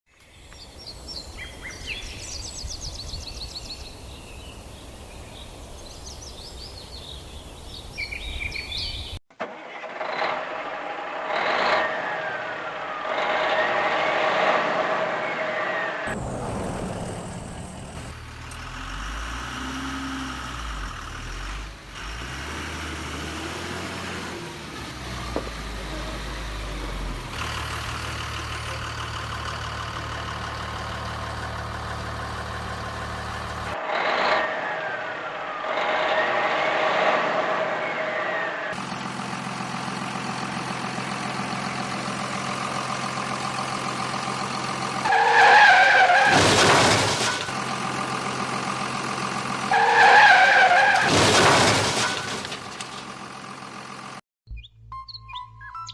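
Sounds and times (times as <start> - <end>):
truck engines revving: 1.2 - 54.2.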